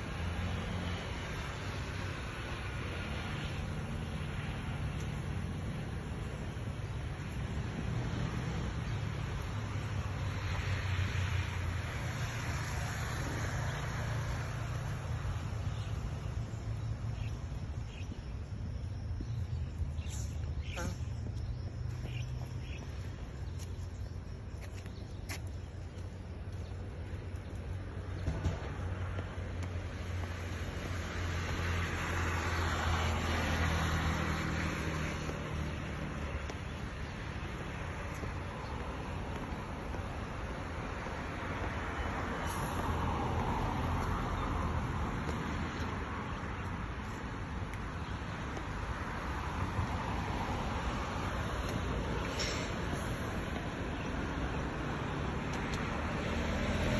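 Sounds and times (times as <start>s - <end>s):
cars driving along road: 0.0s - 56.9s.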